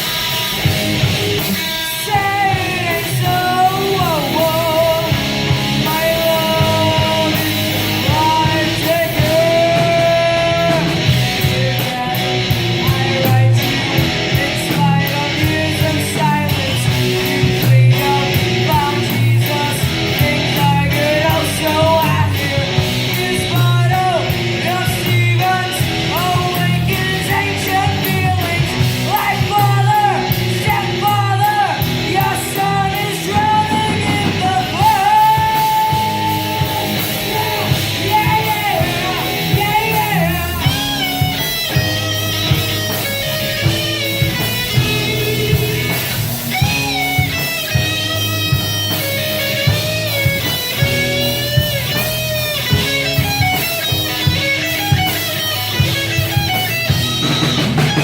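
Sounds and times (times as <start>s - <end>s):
bass guitar: 0.0s - 58.0s
electric guitar: 0.0s - 58.0s
steady drum beat: 0.0s - 58.0s
person singing: 1.4s - 48.3s.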